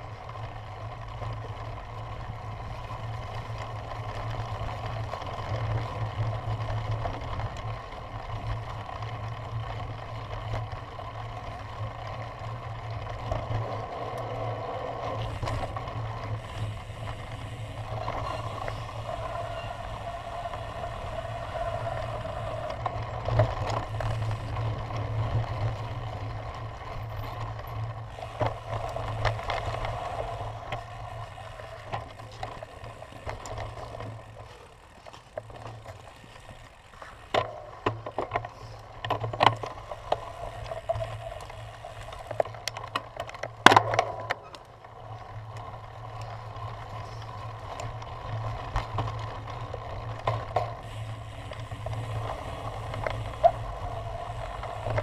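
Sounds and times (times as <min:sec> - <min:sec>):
bike rumbling over grass: 0:00.0 - 0:55.0.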